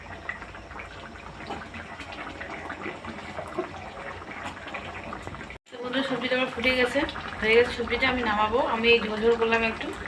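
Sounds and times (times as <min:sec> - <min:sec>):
gravy bubbling in a pan: 0:00.0 - 0:10.0.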